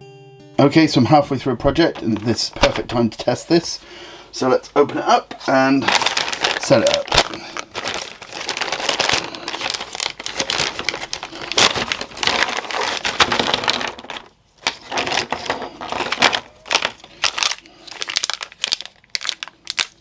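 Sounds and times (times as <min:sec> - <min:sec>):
plastic packaging crinkling: 0:01.6 - 0:20.0.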